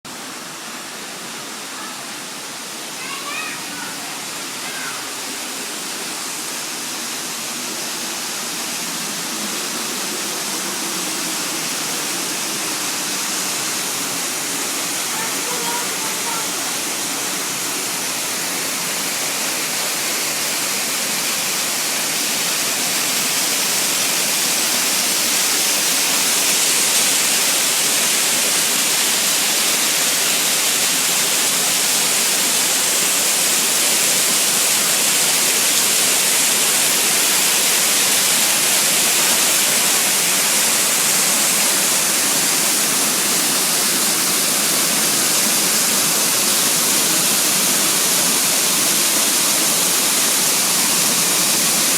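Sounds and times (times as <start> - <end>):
waterfall rushing: 0.1 - 51.9.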